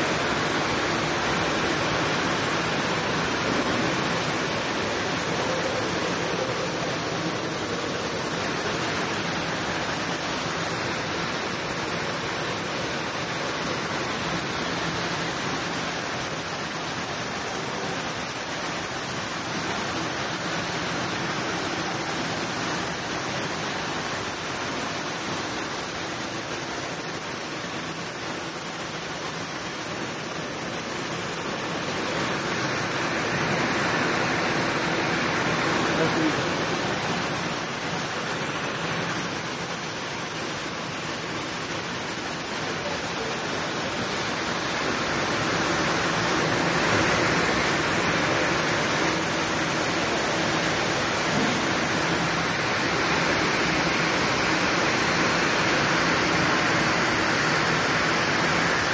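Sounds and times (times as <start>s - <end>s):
machine steady rushing noise: 0.0s - 58.9s.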